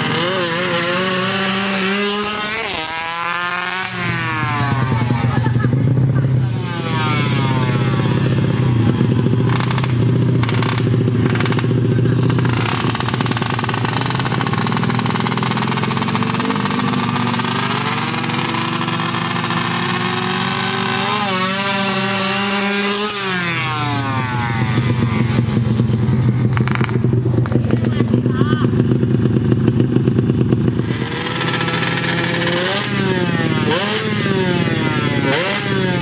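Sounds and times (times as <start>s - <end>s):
motorcycles running at high revs: 0.0s - 36.0s.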